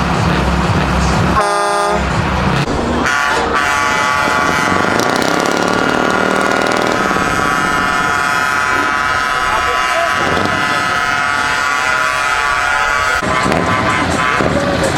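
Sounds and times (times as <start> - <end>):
low engine rumble: 0.0 - 14.9
truck air horn blasts: 0.1 - 14.9.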